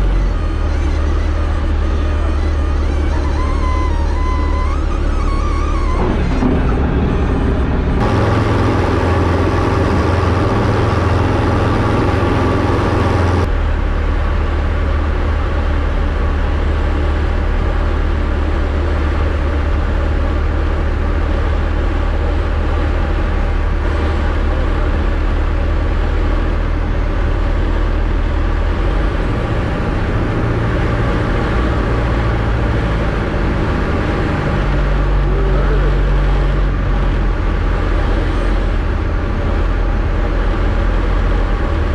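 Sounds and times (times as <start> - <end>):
aircraft engine and propeller droning: 0.0 - 41.9.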